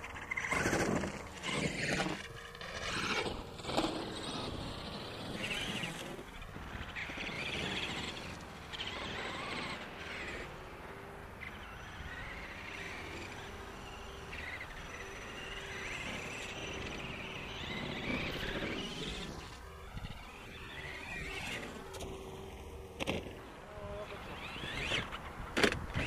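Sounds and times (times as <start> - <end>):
rc truck motors whining: 0.0 - 26.0.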